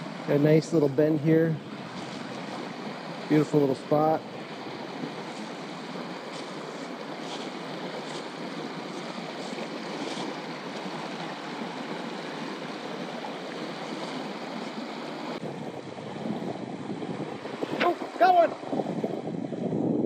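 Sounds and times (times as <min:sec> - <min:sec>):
creek rushing over rocks: 0:00.0 - 0:19.2.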